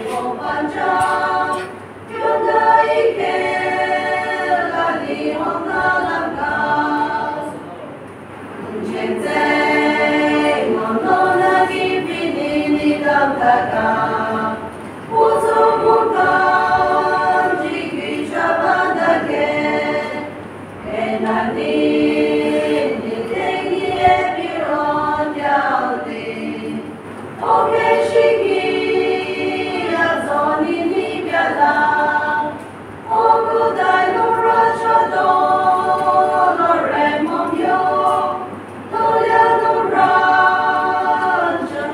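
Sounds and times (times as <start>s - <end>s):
group singing a hymn: 0.0s - 41.9s.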